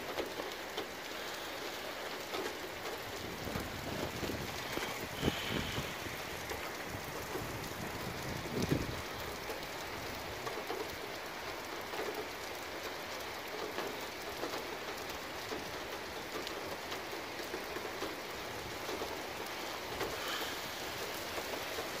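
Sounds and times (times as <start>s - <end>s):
heavy rain falling: 0.0s - 22.0s
raindrop hits: 0.1s - 22.0s.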